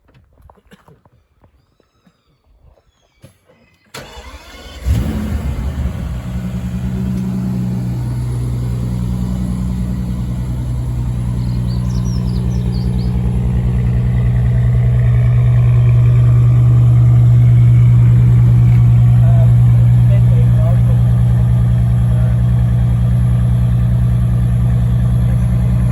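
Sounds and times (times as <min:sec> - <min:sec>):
car engine starting and idling: 0:03.9 - 0:25.9.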